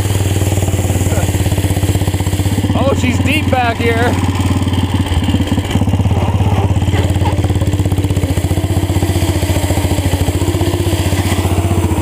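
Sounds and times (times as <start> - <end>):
tractor engine exhaust pulses: 0.0 - 12.0.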